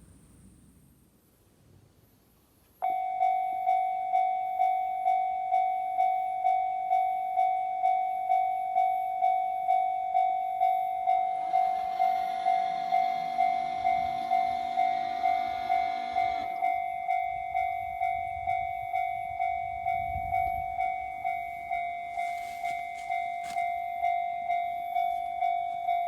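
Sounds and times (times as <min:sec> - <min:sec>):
level crossing warning bell: 0:02.8 - 0:26.0.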